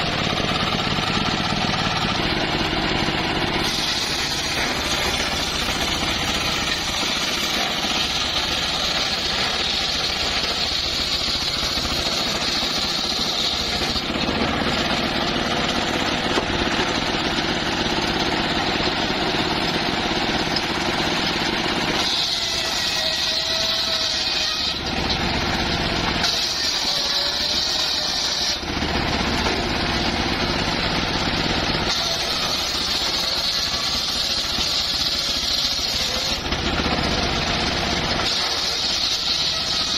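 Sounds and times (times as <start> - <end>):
saw blade cutting timber: 0.0 - 39.9
sawmill running: 0.0 - 39.9.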